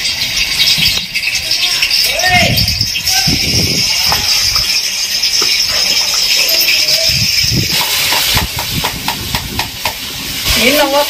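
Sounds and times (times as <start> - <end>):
hot oil sizzling in a pan: 0.0 - 11.0.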